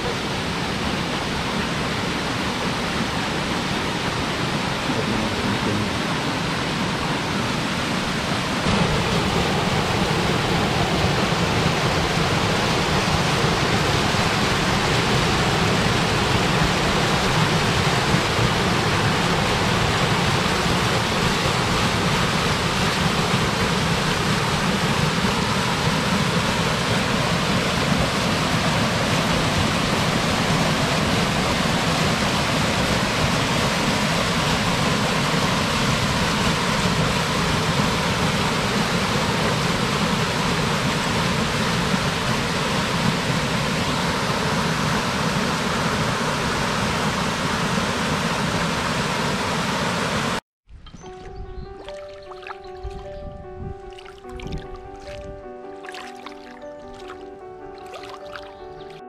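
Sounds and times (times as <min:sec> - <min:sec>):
waterfall rushing: 0:00.0 - 0:50.4, 0:53.8 - 0:59.0.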